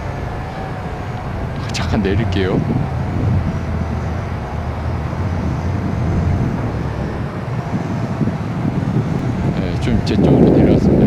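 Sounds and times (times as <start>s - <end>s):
drone motors humming: 0.0s - 11.0s
wind rumble on microphone: 0.0s - 11.0s.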